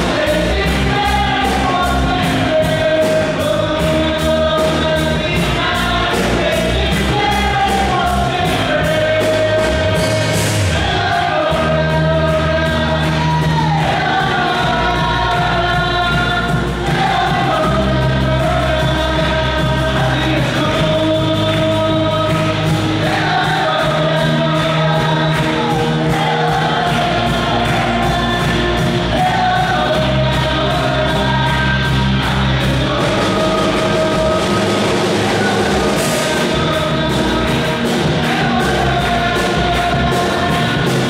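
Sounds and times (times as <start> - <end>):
band playing with bass: 0.0 - 41.0
many voices singing together: 0.0 - 41.0.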